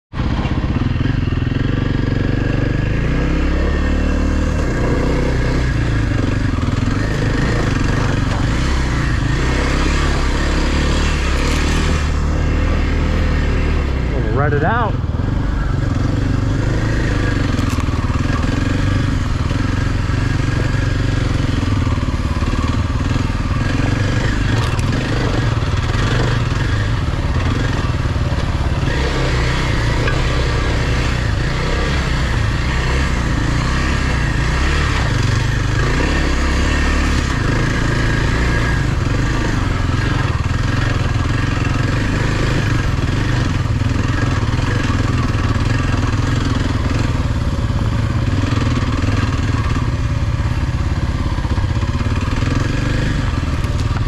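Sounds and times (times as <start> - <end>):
dirt bike engine running: 0.1 - 54.0
second dirt bike running: 0.2 - 54.0.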